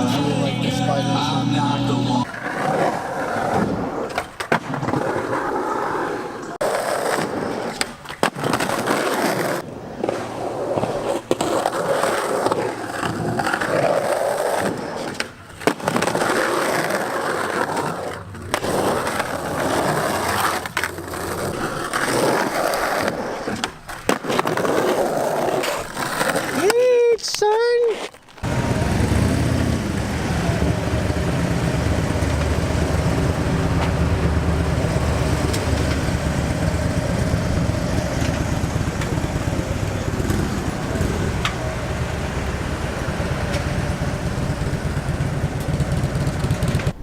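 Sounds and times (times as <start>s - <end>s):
skateboard wheels rolling on pavement: 0.0s - 47.0s.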